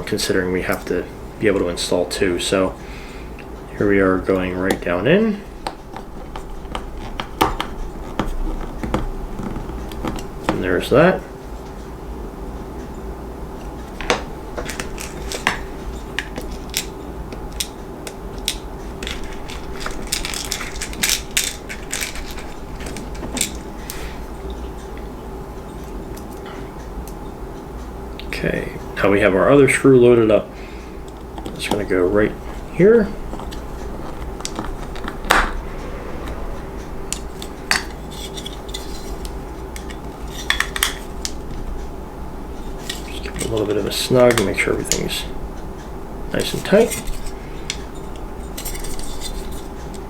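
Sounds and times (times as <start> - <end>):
steady low hum: 0.0 - 29.5, 30.2 - 50.0.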